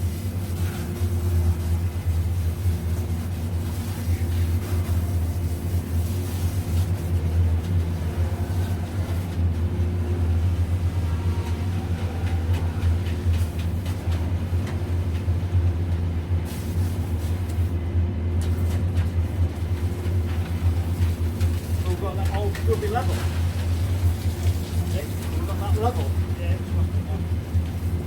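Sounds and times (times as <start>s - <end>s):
heavy engine running: 0.0s - 28.0s.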